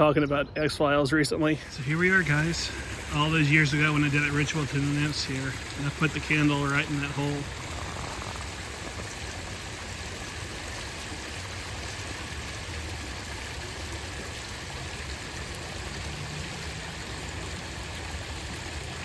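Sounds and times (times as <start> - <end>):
water running over stones: 0.8 - 19.0.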